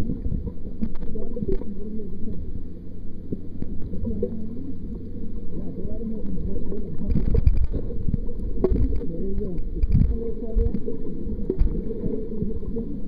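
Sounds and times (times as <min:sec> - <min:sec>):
churning underwater noise: 0:00.0 - 0:13.0.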